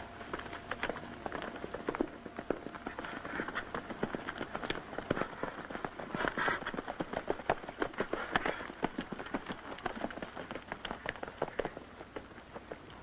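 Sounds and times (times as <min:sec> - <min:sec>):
horses galloping: 0:00.0 - 0:13.0.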